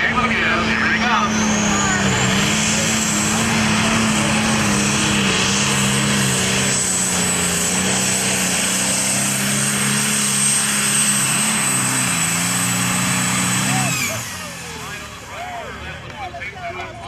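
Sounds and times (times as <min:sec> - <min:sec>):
high steady turbo whine: 0:00.0 - 0:15.8
diesel engine droning under load: 0:00.0 - 0:17.0.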